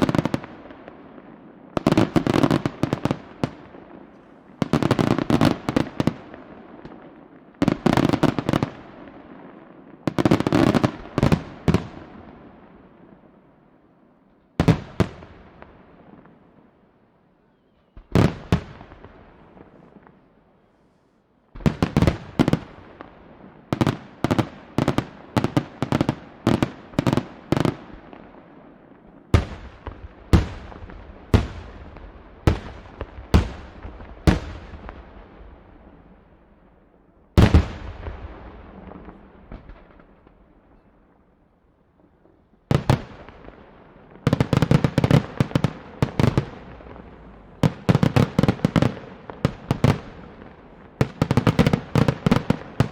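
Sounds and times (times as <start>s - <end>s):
fireworks bangs with echo: 0.0s - 13.4s, 14.6s - 16.6s, 17.8s - 20.3s, 21.5s - 41.4s, 42.1s - 52.9s.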